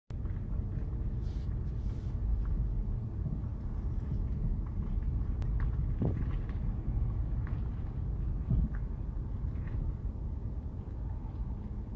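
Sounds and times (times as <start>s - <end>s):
car engine and tyres rumbling: 0.1s - 11.9s.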